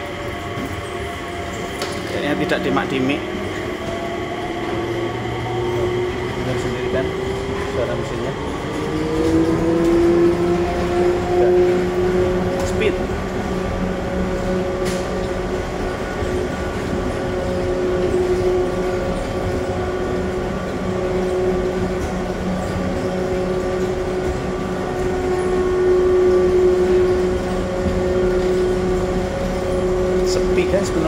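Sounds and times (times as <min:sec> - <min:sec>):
rolling rumble: 0:00.0 - 0:31.0
train motor hum with tones: 0:00.0 - 0:31.0.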